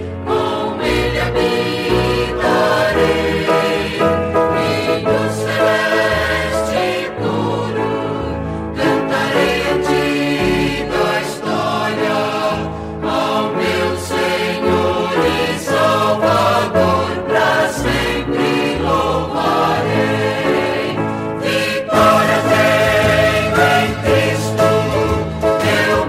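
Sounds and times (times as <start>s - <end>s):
instrumental backing: 0.0s - 26.0s
vocal group singing in harmony: 0.0s - 26.0s.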